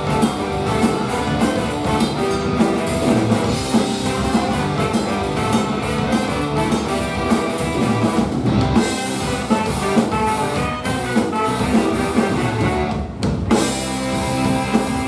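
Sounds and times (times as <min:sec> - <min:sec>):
saxophones: 0:00.0 - 0:13.0, 0:13.7 - 0:15.0
bass guitar: 0:00.0 - 0:15.0
drum kit: 0:00.0 - 0:15.0
electric guitars: 0:00.0 - 0:15.0
trombone: 0:00.0 - 0:15.0.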